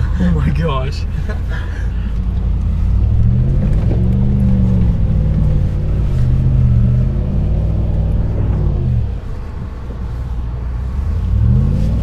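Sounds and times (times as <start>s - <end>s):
engine rumbling and revving: 0.0s - 12.0s.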